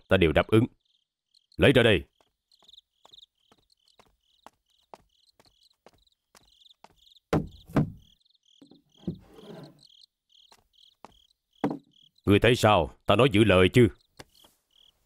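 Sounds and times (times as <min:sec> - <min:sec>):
crickets chirping: 0:00.1 - 0:12.3, 0:13.6 - 0:15.0.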